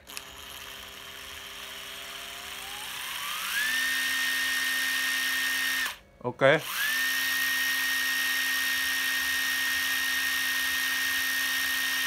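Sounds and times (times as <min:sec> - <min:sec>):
impact driver motor whining: 0:00.0 - 0:06.0, 0:06.6 - 0:12.0.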